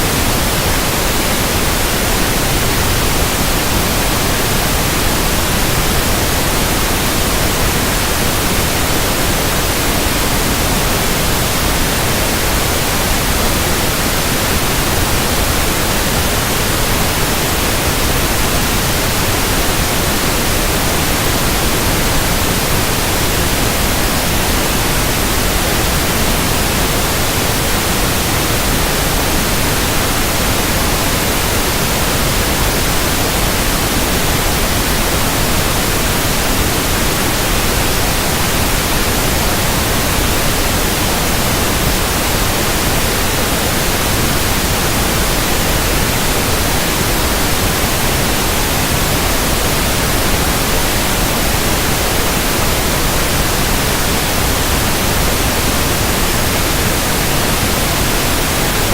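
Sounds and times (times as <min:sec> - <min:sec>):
pink noise hiss: 0:00.0 - 0:58.9.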